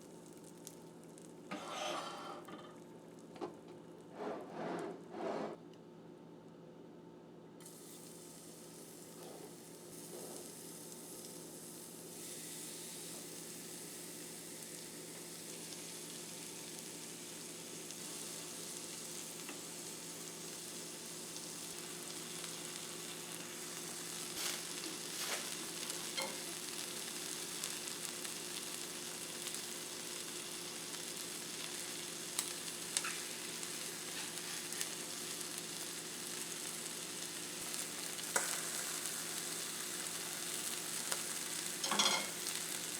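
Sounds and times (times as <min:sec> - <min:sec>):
food sizzling in a pan: 0:00.0 - 0:03.3, 0:07.6 - 0:42.9.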